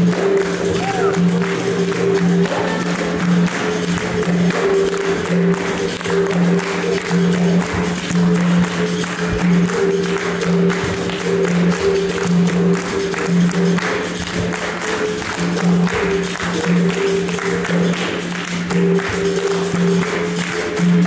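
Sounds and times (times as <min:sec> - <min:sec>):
berimbau: 0:00.0 - 0:21.0
hand drum: 0:00.0 - 0:21.0
people clapping along: 0:00.0 - 0:21.0.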